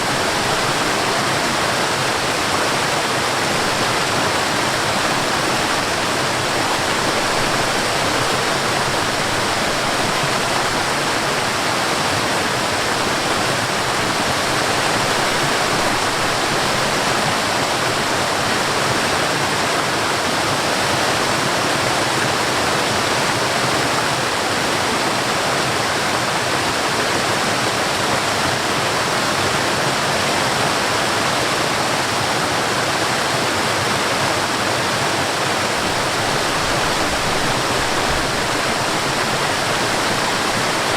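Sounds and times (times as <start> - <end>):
water rushing over waterfall: 0.0 - 40.9.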